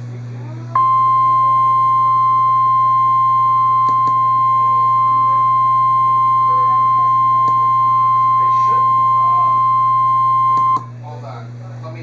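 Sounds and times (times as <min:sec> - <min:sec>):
low hum: 0:00.4 - 0:11.0
steady high-pitched alarm tone: 0:00.8 - 0:10.8.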